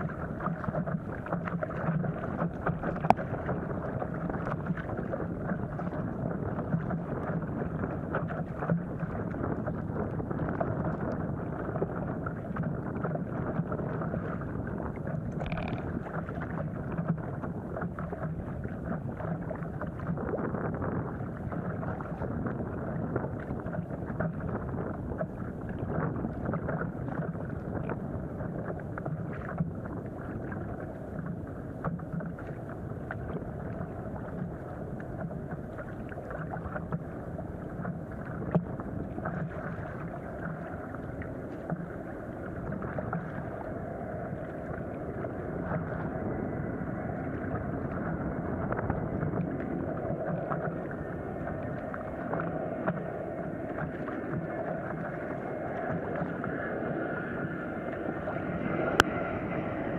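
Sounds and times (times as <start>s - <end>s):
water sloshing against paddleboard: 0.0s - 59.9s
wind noise on microphone: 0.0s - 59.9s.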